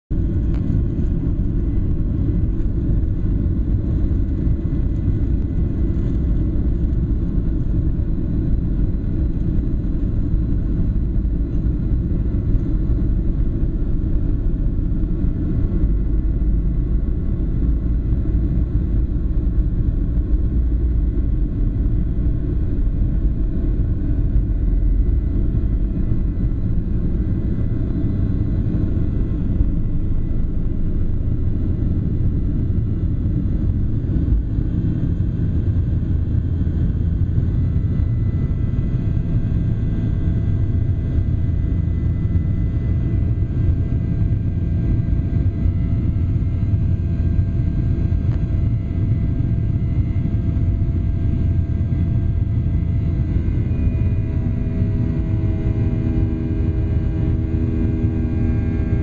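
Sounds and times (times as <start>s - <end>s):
faint high engine whine: 0.1s - 59.0s
jet cabin rumble: 0.1s - 59.0s.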